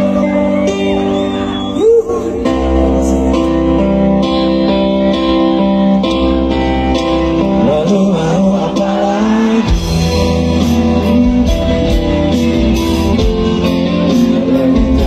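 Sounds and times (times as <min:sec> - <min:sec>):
deep bass: 0:00.0 - 0:15.0
electric guitar chords: 0:00.0 - 0:15.0.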